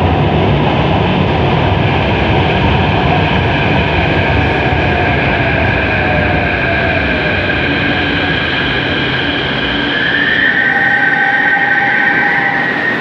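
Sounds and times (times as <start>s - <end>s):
high whining train tones: 0.0s - 13.0s
train rumble: 0.0s - 13.0s.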